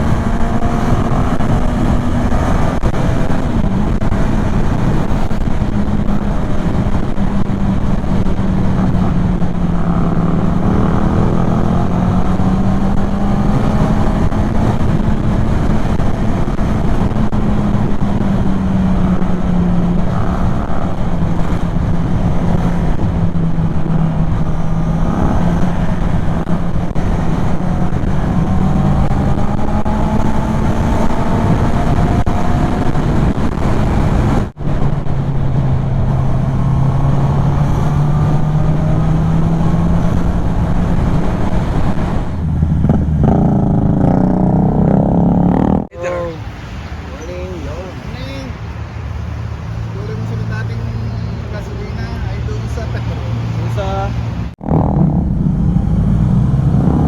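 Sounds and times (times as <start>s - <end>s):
scooter engine cruising: 0.0s - 57.0s
wind and road rush: 0.0s - 57.0s.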